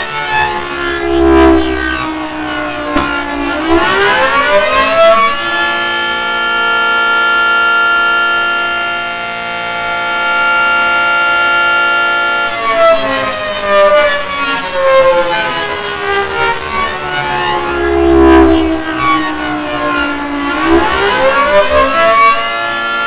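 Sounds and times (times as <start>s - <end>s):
civil defense siren wailing: 0.0s - 23.0s.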